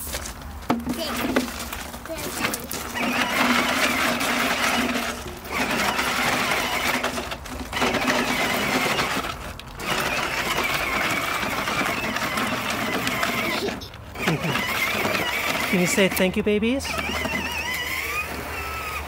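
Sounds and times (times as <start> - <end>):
toy electric motor whining: 0.9 - 19.0.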